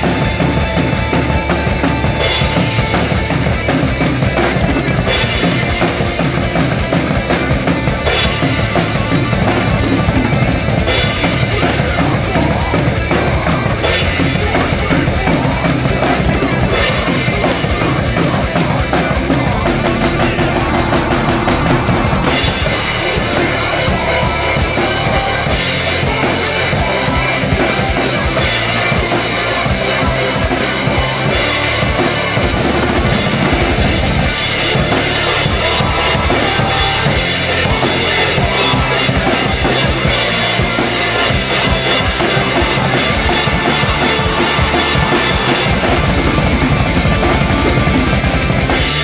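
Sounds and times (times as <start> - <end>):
heavy metal drum kit: 0.0 - 49.0.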